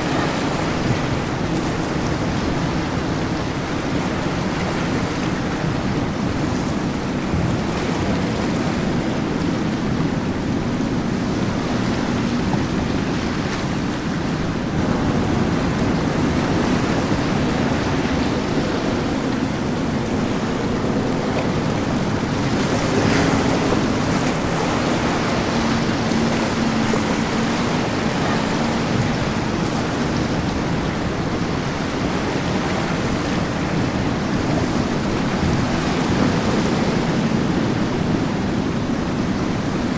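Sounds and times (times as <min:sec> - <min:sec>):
churning wake water: 0:00.0 - 0:39.9
faint low engine drone: 0:00.0 - 0:39.9
wind on microphone: 0:00.0 - 0:39.9.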